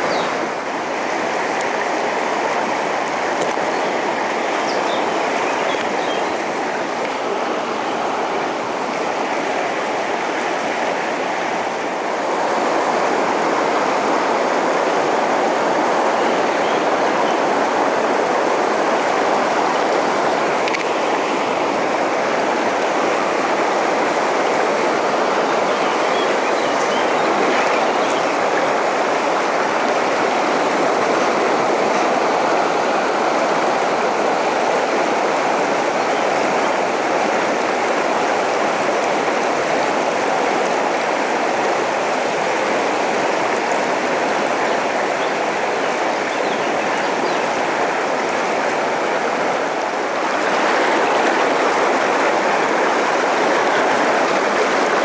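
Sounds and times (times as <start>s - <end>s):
river rushing over rapids: 0.0s - 55.0s.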